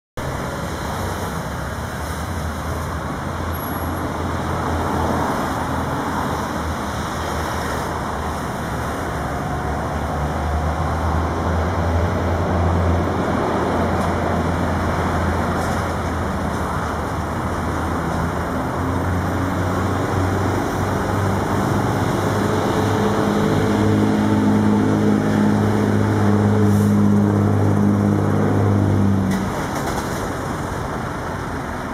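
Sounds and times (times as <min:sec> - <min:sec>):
heavy engine hum: 0:00.2 - 0:31.9
road traffic rumble: 0:00.2 - 0:31.9.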